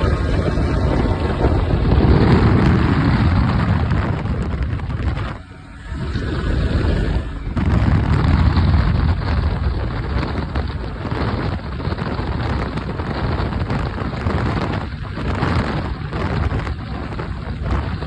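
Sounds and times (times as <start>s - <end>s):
rushing wind and water: 0.0s - 18.0s
wind buffeting on microphone: 0.0s - 18.0s.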